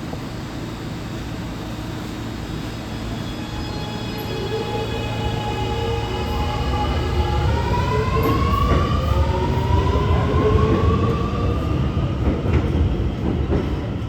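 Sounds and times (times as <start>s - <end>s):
subway traction motors whining: 0.0s - 14.0s.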